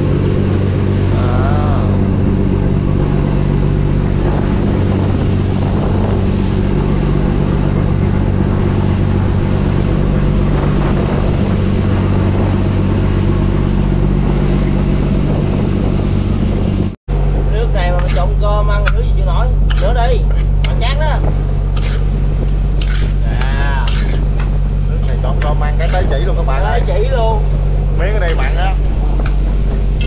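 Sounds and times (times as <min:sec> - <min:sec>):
boat engine low hum: 0:00.0 - 0:30.0.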